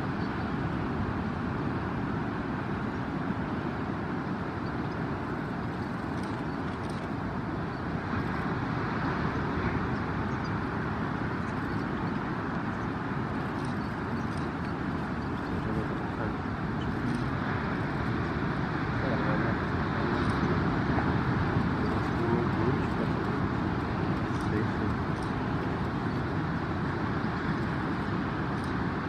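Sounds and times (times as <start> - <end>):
steady outdoor rushing noise: 0.0 - 29.0.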